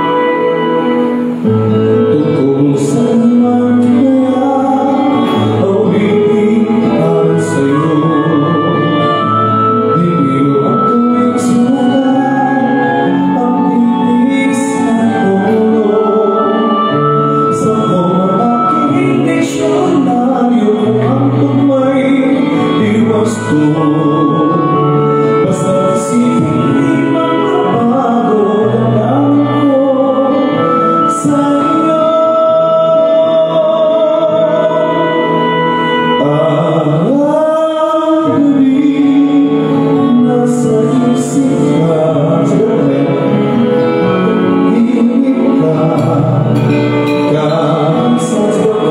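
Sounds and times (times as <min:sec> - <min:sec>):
instrumental backing music: 0:00.0 - 0:48.9
man singing into a microphone: 0:00.0 - 0:48.9.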